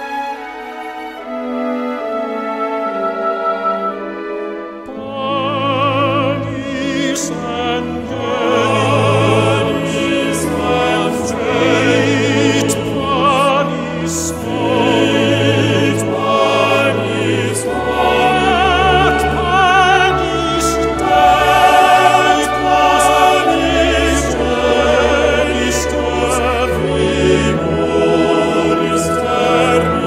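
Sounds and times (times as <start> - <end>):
low sustained accompaniment: 0.0 - 30.0
person singing with vibrato: 4.8 - 30.0.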